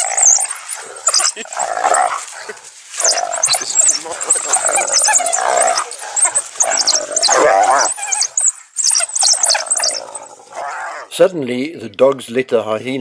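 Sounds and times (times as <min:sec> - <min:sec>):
hyena squealing: 0:00.0 - 0:11.2
wild dogs twittering chirps: 0:00.0 - 0:11.2.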